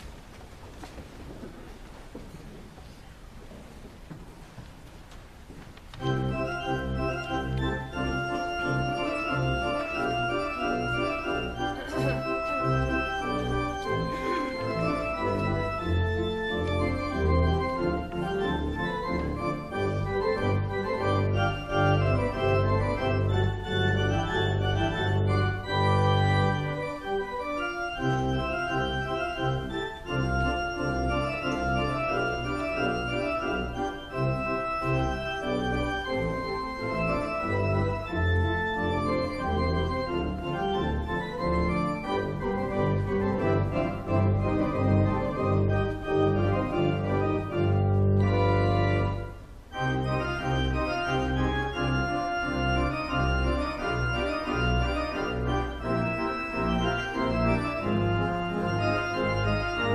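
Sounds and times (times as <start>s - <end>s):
pipe organ playing: 5.9s - 59.9s.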